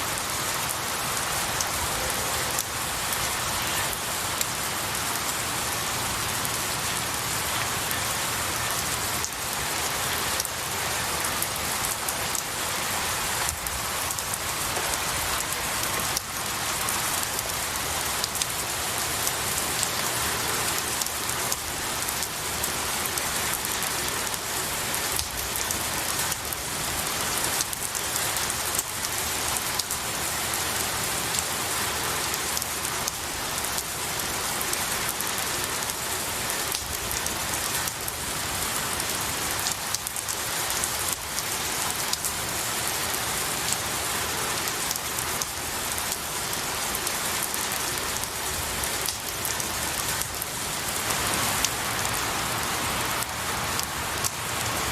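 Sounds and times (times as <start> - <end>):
rain falling on trees: 0.0 - 54.9
raindrops pattering: 0.0 - 54.9.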